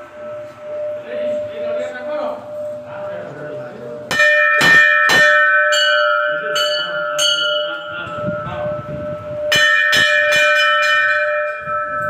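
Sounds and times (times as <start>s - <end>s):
brass bells ringing: 0.0s - 12.0s.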